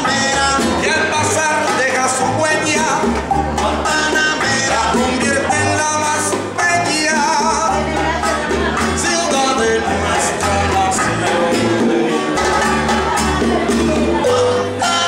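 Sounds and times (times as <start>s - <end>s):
acoustic guitar: 0.0s - 15.0s
hand drums: 0.0s - 15.0s
man singing: 0.0s - 15.0s
upright bass plucking: 0.0s - 15.0s.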